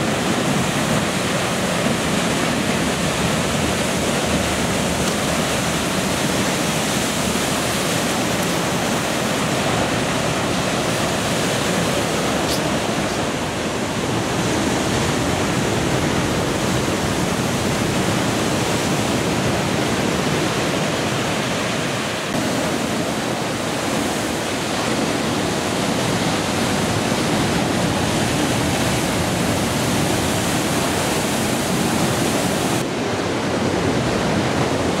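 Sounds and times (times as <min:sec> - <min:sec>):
heavy surf breaking: 0:00.0 - 0:35.0.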